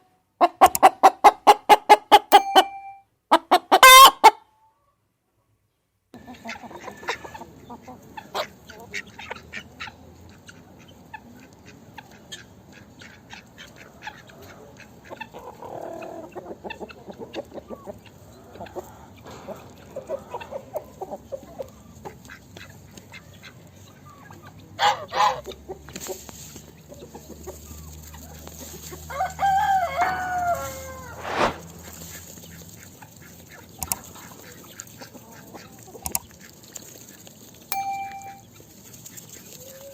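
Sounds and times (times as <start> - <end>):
chickens clucking: 0.4 - 2.5, 6.2 - 39.9.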